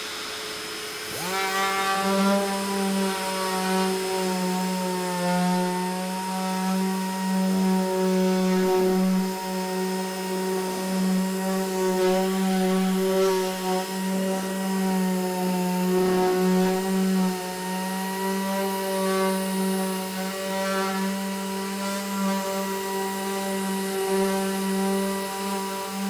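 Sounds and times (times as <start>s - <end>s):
orbital sander sanding: 0.0s - 26.0s.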